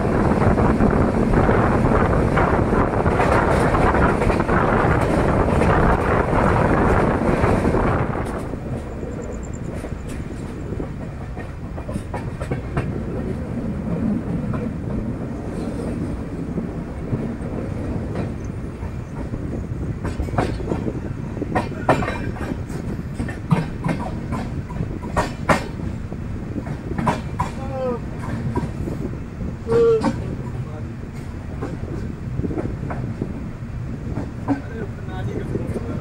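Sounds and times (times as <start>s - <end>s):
train rumbling along track: 0.0s - 36.0s
wheels clacking over rail joints: 0.0s - 36.0s.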